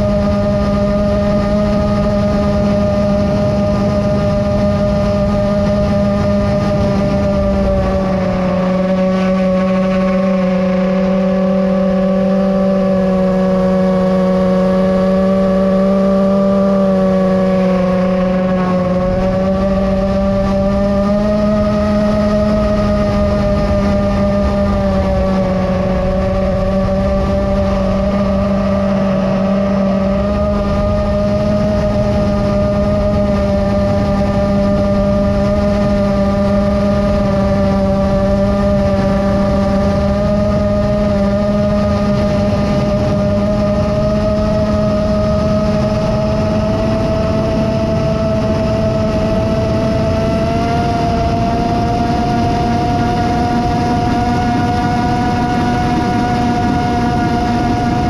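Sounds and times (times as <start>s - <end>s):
drone motors whining: 0.0s - 58.0s
wind rush: 0.0s - 58.0s.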